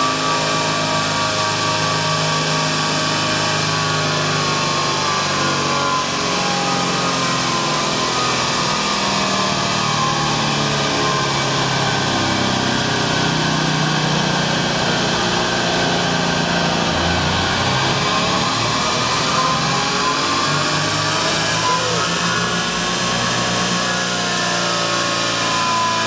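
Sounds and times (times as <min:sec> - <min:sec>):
whine: 0:00.0 - 0:26.0.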